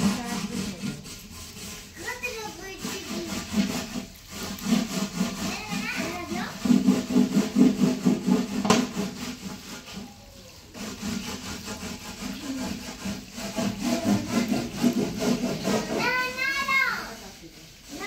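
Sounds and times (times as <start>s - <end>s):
wood rubbing strokes: 0.0s - 18.0s.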